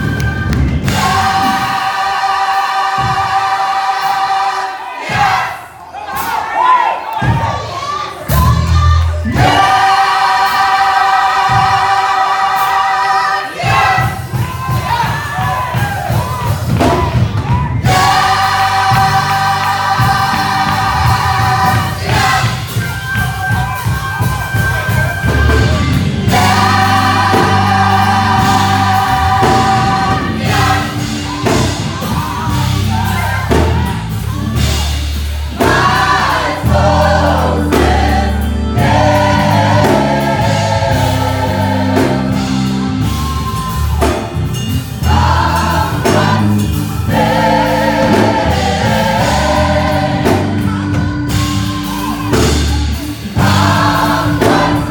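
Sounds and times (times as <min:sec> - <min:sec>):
gospel choir singing: 0:00.0 - 0:54.9
rhythmic instrumental accompaniment: 0:00.0 - 0:54.9.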